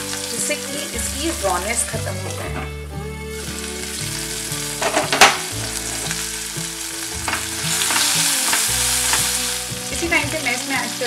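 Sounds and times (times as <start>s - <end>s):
peppers sizzling in oil: 0.0s - 2.4s, 3.3s - 11.0s.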